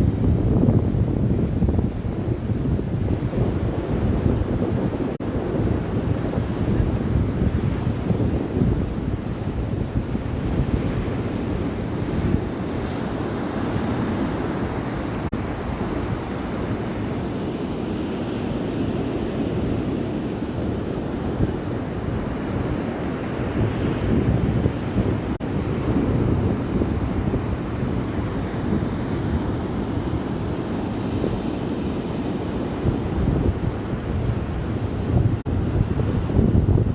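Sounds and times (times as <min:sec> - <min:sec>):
sea surf: 0:00.0 - 0:36.9
wind buffeting microphone: 0:00.0 - 0:36.9.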